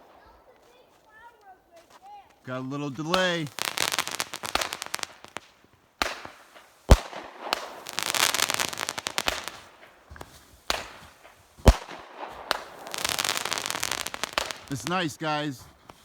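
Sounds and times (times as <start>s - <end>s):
fireworks crackling: 0.0s - 16.0s
firework bangs: 3.0s - 16.0s.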